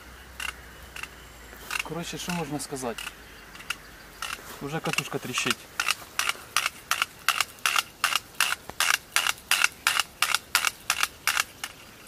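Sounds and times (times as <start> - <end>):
spinning reel crackling and clicking: 0.4 - 12.0
reel rattling: 1.7 - 11.9.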